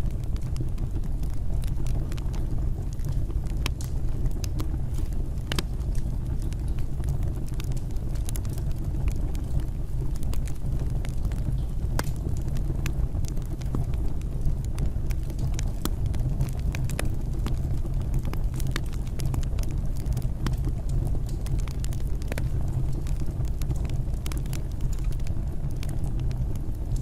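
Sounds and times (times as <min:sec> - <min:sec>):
burning wood crackling and popping: 0:00.0 - 0:27.0
fireplace flames rumbling: 0:00.0 - 0:27.0.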